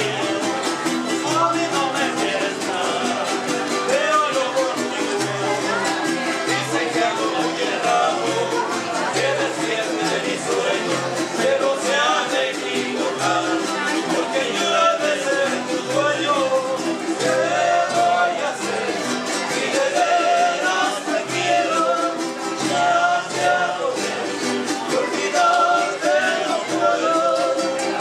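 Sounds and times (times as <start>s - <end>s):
harp and strummed guitars: 0.0s - 28.0s
men singing: 0.0s - 28.0s.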